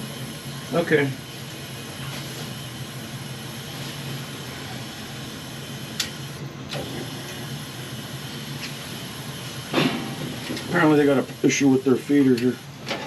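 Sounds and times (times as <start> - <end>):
water filling boiler with hum and hiss: 0.0 - 13.0.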